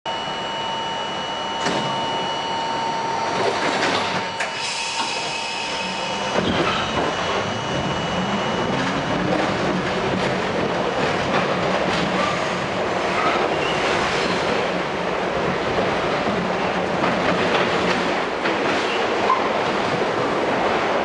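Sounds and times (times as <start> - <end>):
subway doors sliding shut: 1.1 - 21.0.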